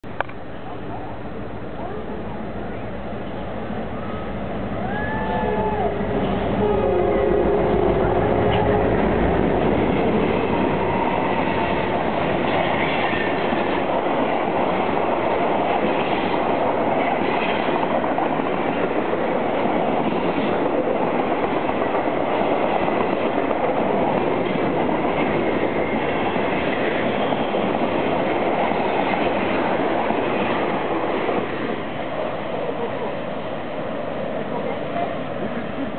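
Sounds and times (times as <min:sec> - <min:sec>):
diesel locomotive engine rumble: 0:00.0 - 0:35.9
train wheels rolling on rails: 0:01.4 - 0:35.9.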